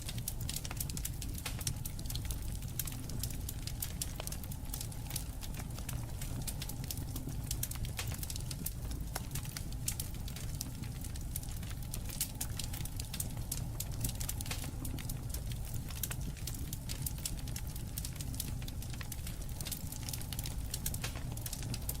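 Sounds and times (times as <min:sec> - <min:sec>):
campfire crackling and popping: 0:00.0 - 0:22.0
fire low rumble: 0:00.0 - 0:22.0.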